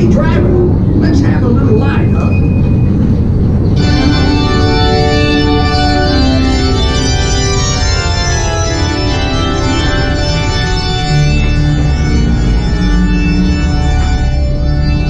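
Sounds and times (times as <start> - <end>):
train rumbling on track: 0.0 - 15.0
organ music: 1.8 - 15.0.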